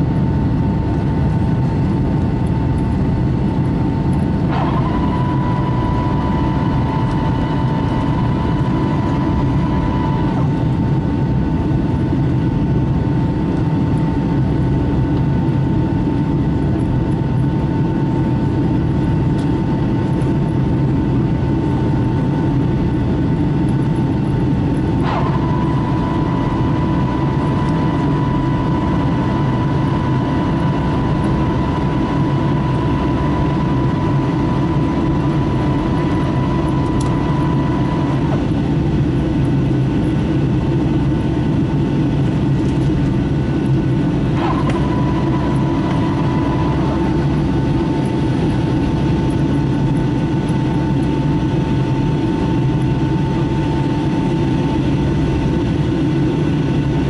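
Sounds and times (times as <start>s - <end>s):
aircraft cabin engine rumble: 0.0s - 57.0s
jet engine whine: 0.0s - 57.0s.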